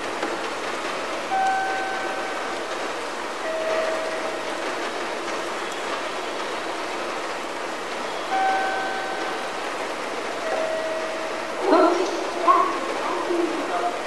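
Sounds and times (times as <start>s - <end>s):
steady station hiss: 0.0s - 14.0s.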